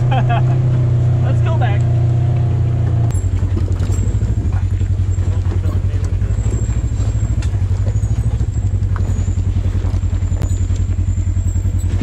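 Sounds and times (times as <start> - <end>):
engine low pulsing rumble: 0.0 - 12.0.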